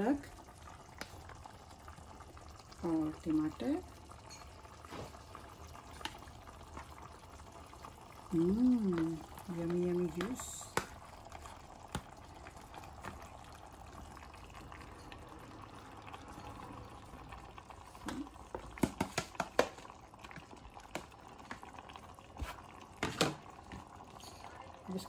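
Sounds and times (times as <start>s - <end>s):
low hiss from pot: 0.0s - 25.0s.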